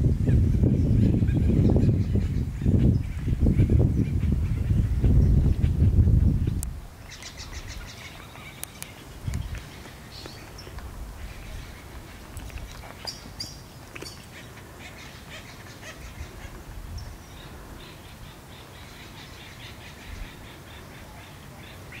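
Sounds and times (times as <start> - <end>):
woodpeckers squawking: 0.2 - 22.0.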